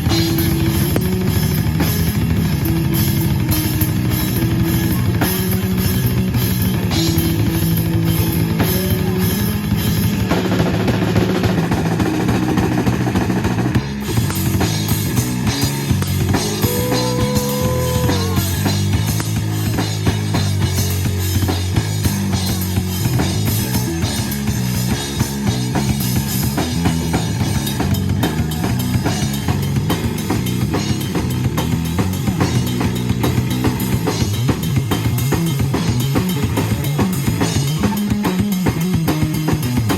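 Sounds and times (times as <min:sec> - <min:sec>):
bass line: 0:00.0 - 0:39.9
drum kit beat: 0:00.0 - 0:39.9
rock band playing: 0:00.0 - 0:39.9.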